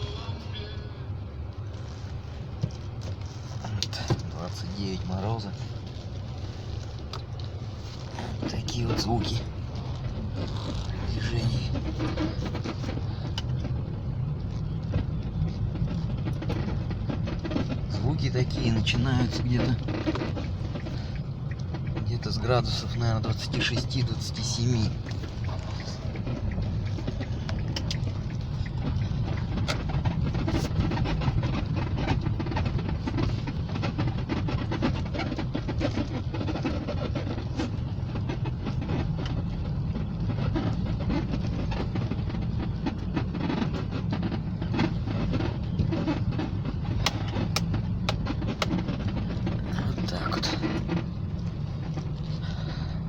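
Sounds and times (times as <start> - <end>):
car suspension creaking and squeaking: 0.0 - 53.0
low rumble of car on road: 0.0 - 53.0.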